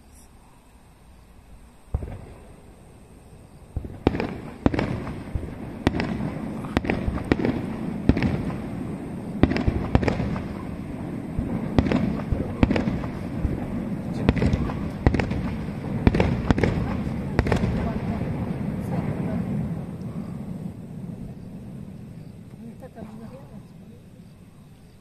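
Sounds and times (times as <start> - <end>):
firework bangs: 1.9 - 23.6.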